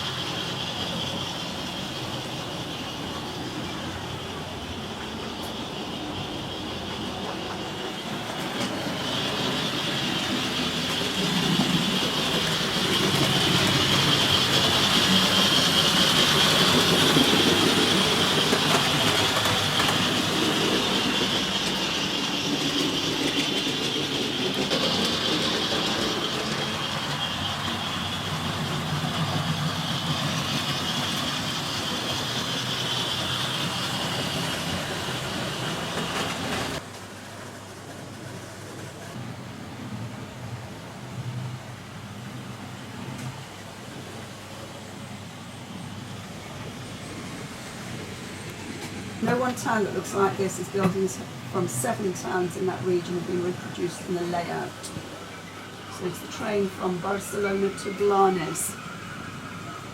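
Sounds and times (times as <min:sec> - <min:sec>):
train wheels on track: 0:00.0 - 0:59.9.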